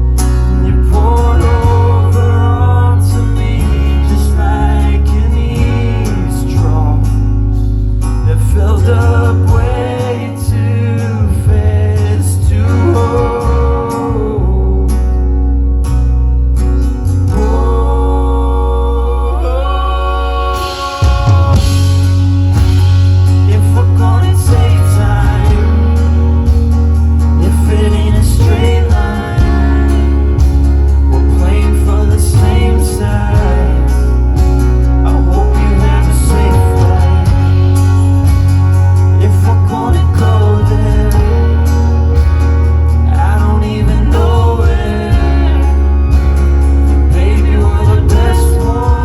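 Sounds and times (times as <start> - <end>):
person singing: 0.0 - 7.4, 8.2 - 15.2, 17.2 - 22.3, 23.3 - 49.0
live band playing: 0.0 - 49.0
low bass notes: 0.0 - 49.0.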